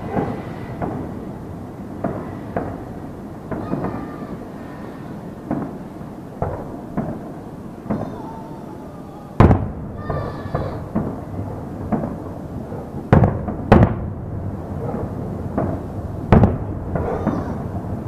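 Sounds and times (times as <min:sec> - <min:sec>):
small fireworks pops: 0:00.0 - 0:01.2, 0:02.0 - 0:08.3, 0:09.4 - 0:14.1, 0:14.8 - 0:17.7
rumble: 0:00.0 - 0:08.2, 0:09.4 - 0:18.0
fireworks booming: 0:00.0 - 0:18.0.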